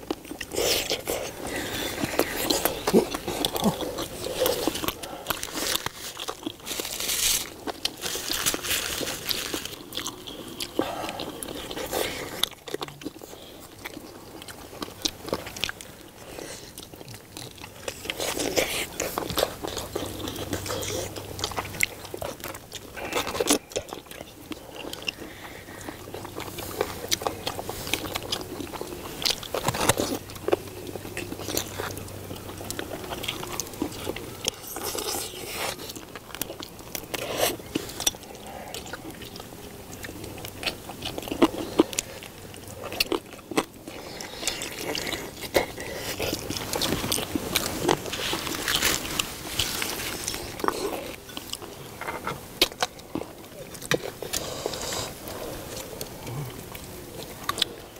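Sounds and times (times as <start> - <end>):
people chewing and biting: 0.0 - 57.9.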